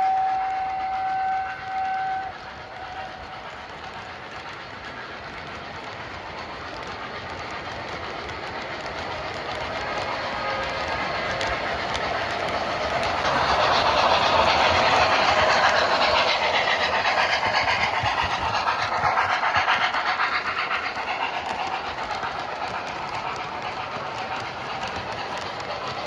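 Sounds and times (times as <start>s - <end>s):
train clattering on rails: 0.0s - 26.0s.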